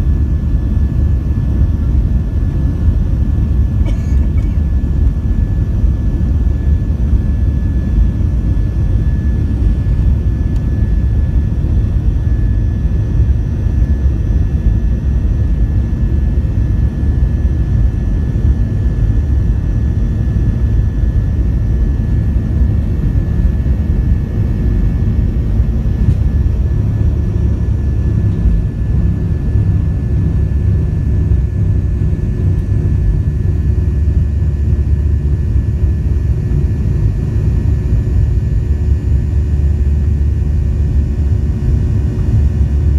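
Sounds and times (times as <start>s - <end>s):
jet engine deep rumble: 0.0s - 42.9s
jet engine high whine: 0.0s - 42.9s.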